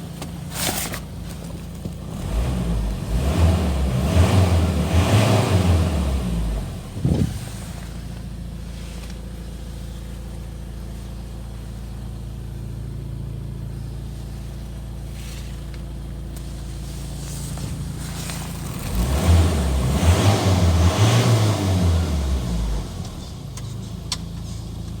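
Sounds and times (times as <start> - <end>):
diesel engine idling and revving: 0.0 - 25.0.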